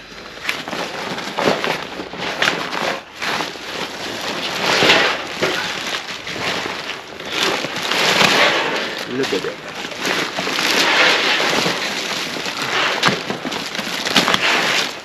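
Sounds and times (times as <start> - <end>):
fabric bag rustling: 0.0 - 15.0
plastic film crinkling: 0.0 - 15.0.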